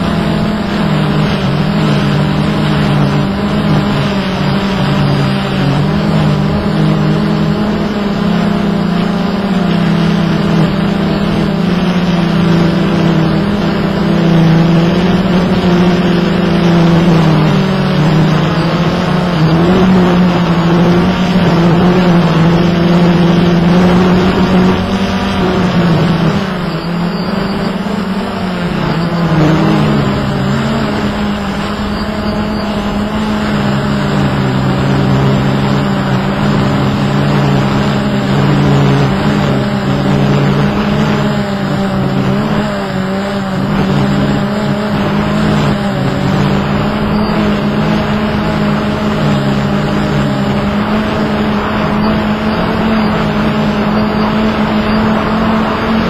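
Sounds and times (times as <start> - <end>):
quadcopter motors humming: 0.0 - 56.0
wind rushing over microphone: 0.0 - 56.0.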